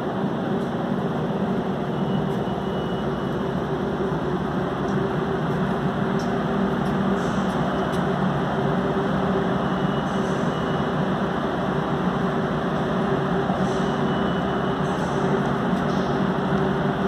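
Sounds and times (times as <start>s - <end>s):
subway station hum and drone: 0.0s - 17.0s.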